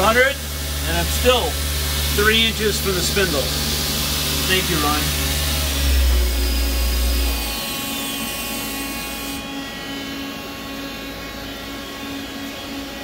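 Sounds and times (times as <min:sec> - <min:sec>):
deep hum: 0:00.0 - 0:13.0
lathe spindle whine: 0:00.0 - 0:13.0
steady machine hum: 0:00.0 - 0:13.0.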